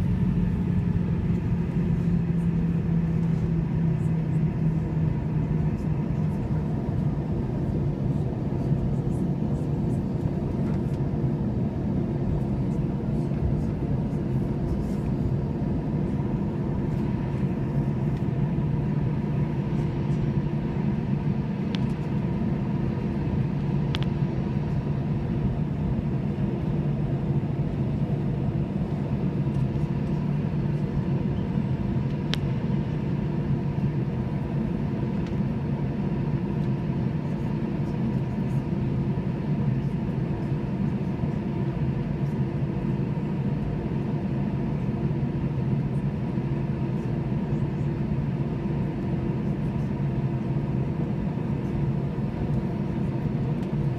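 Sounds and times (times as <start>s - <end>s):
jet cabin rumble: 0.0s - 53.9s.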